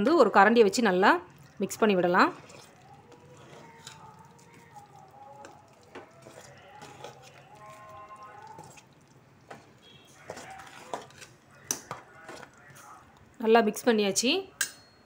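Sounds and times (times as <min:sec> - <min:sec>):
wet squelching porridge: 0:00.3 - 0:13.9.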